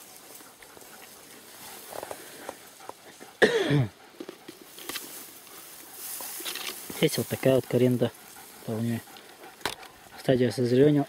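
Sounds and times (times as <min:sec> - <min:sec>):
footsteps through tall grass: 0:00.0 - 0:03.4, 0:04.5 - 0:10.1.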